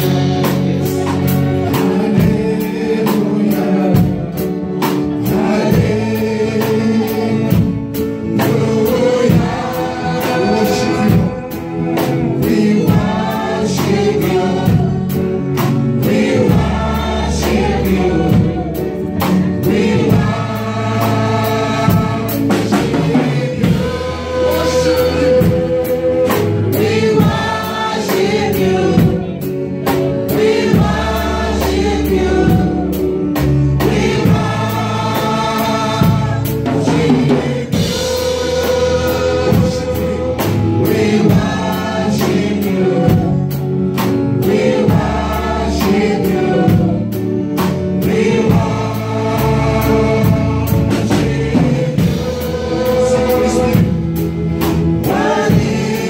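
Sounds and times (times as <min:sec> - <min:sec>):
acoustic and electric guitars: 0:00.0 - 0:56.0
drum kit steady beat: 0:00.0 - 0:56.0
singers singing together: 0:00.0 - 0:56.0.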